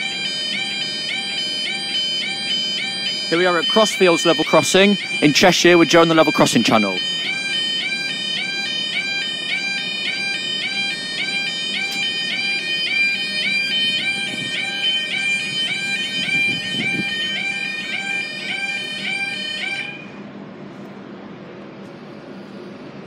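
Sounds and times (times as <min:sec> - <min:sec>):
level crossing alarm warbling: 0:00.0 - 0:20.0.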